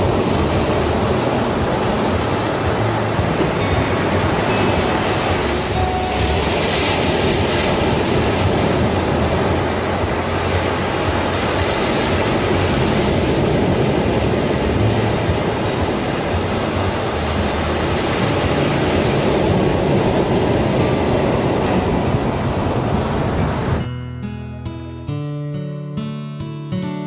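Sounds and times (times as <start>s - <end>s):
ocean waves washing on beach: 0.0s - 23.9s.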